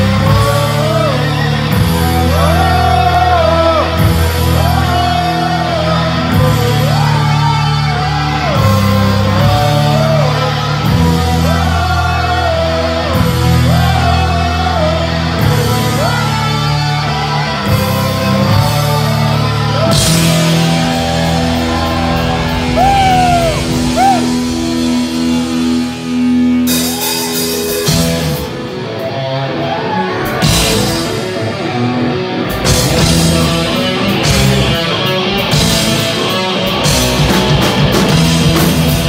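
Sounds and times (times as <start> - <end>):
electric guitar sliding melody: 0.0 - 39.0
heavy metal band playing: 0.0 - 39.0.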